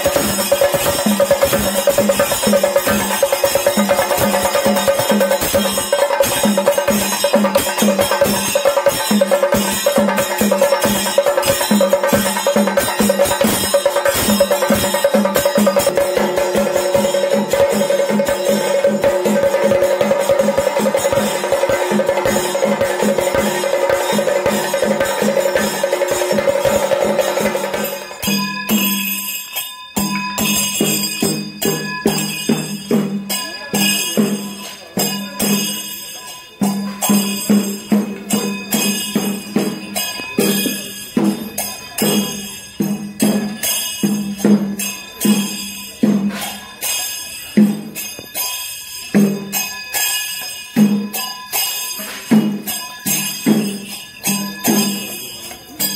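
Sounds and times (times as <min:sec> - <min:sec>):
drums beaten with sticks: 0:00.0 - 0:55.9
hand cymbals ringing: 0:00.0 - 0:55.9.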